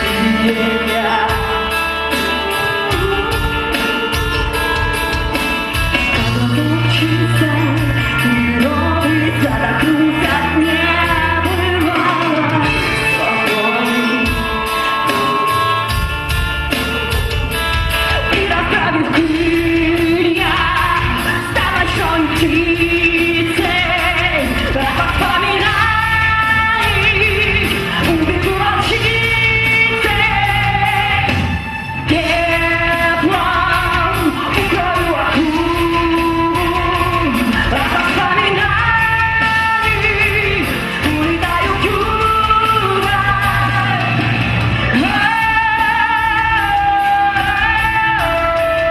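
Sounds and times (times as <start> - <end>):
live rock band playing: 0.0 - 48.9
woman singing lead: 0.0 - 48.9.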